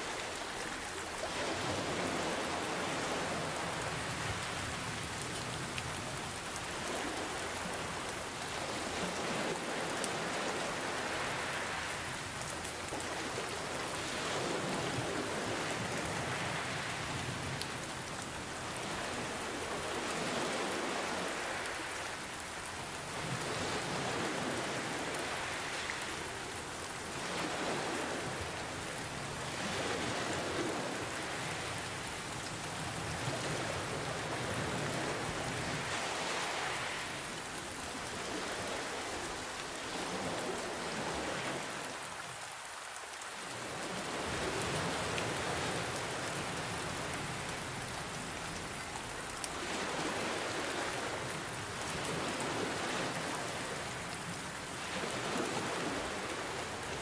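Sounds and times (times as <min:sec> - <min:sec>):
ocean waves: 0:00.0 - 0:57.0
steady rain hiss: 0:00.0 - 0:57.0.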